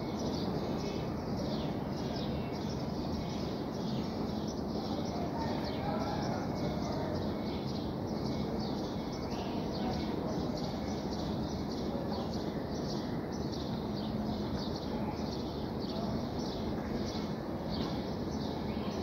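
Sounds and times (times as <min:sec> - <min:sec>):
steady low background noise: 0:00.0 - 0:19.0.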